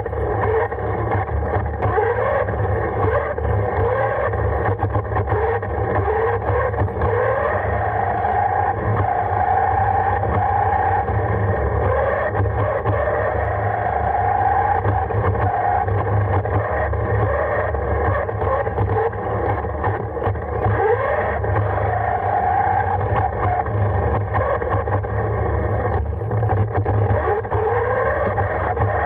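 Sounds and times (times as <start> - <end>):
electric motor and gears whining: 0.0 - 29.0
low hum and rumbling: 0.0 - 29.0.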